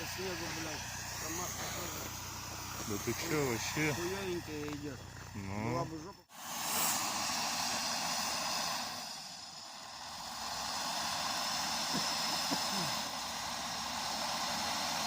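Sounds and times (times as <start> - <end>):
tyres ploughing through snow: 0.0 - 15.0
vehicle engine: 0.0 - 15.0.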